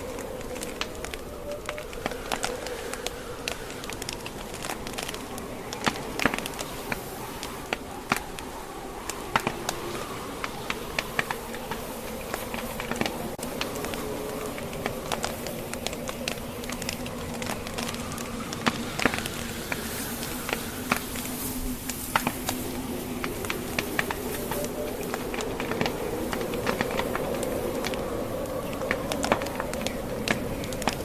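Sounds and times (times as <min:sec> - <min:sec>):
fire crackling and popping: 0:00.0 - 0:31.0
fire hiss: 0:00.0 - 0:31.0
howling wind: 0:00.0 - 0:31.0.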